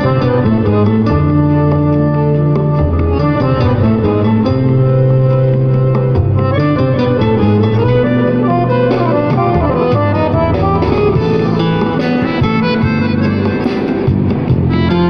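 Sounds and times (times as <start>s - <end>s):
accordion melody: 0.0s - 15.0s
held bass line: 0.0s - 15.0s
plucked strings: 0.0s - 15.0s.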